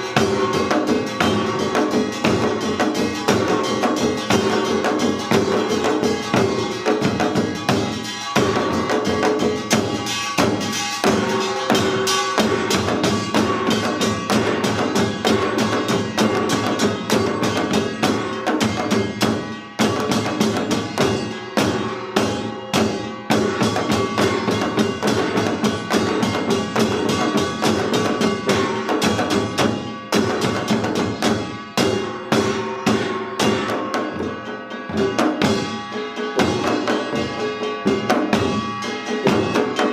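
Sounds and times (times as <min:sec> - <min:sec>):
drums in fast dense rhythm: 0:00.0 - 0:39.9
gongs clanging and ringing: 0:00.0 - 0:39.9.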